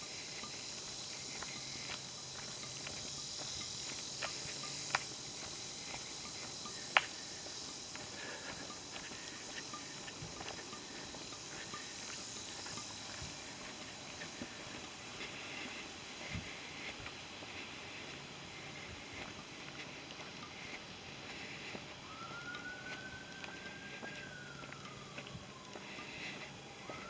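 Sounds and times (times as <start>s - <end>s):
footsteps on dirt trail: 0.0s - 27.0s
high insect drone: 0.0s - 27.0s.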